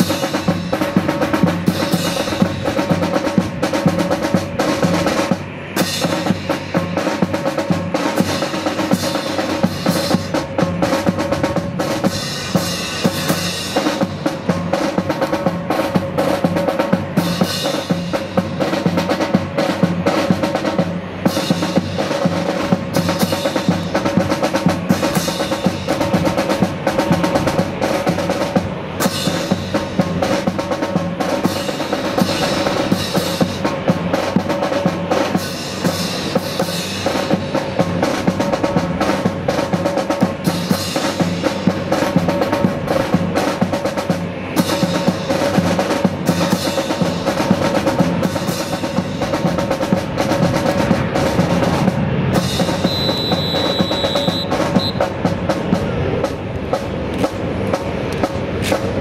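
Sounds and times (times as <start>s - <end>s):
drum-led music: 0.0s - 59.0s.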